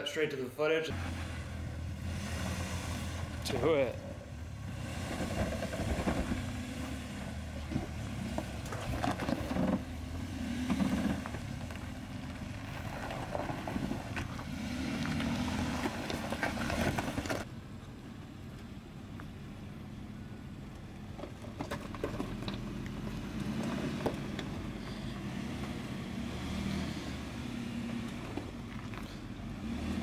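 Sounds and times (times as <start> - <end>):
suv engine running at low speed: 0.9 - 30.0.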